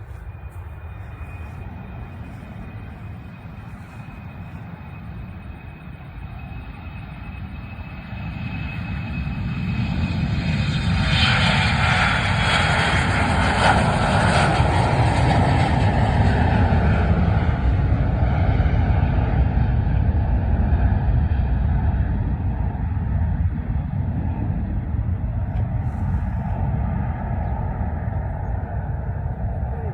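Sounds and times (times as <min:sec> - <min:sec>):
airplane engines passing: 0:00.0 - 0:29.9.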